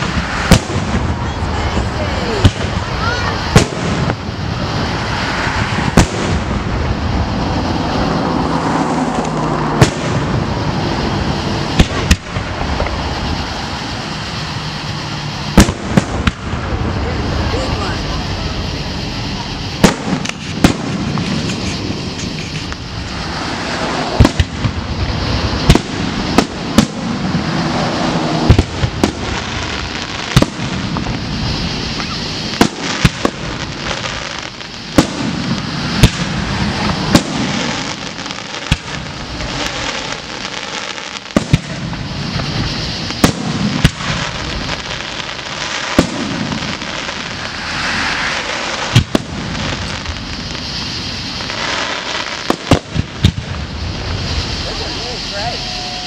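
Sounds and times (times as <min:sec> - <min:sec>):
crackling and rumbling: 0:00.0 - 0:56.0
firework shells bursting: 0:00.0 - 0:56.0.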